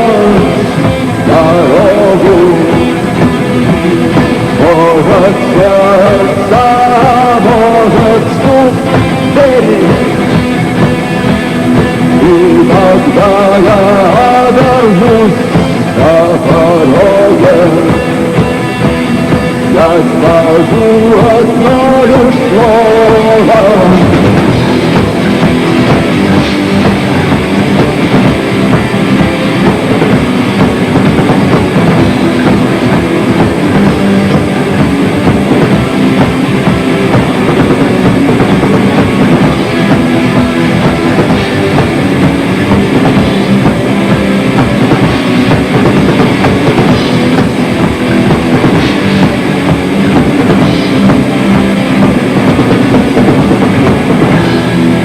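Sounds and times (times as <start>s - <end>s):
instrumental rock music: 0.0s - 55.0s.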